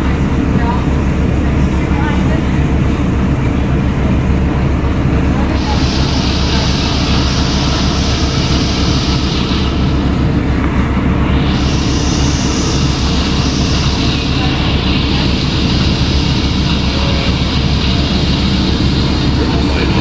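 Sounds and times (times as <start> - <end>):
bus diesel engine rumbling: 0.0 - 20.0
road and tyre noise: 0.0 - 20.0.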